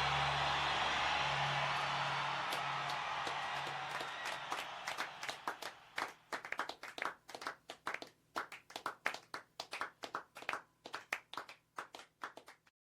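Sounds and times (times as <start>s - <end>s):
hand clapping: 0.0s - 12.7s.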